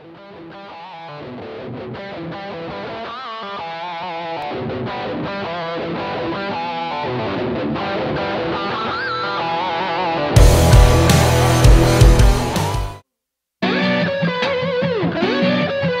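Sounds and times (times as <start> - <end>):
guitar-led rock music: 0.0 - 13.0, 13.6 - 16.0.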